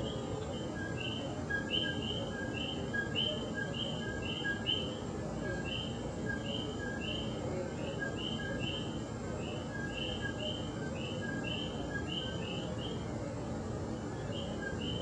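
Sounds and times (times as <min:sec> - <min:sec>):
frogs calling: 0:00.0 - 0:13.0, 0:14.1 - 0:15.0.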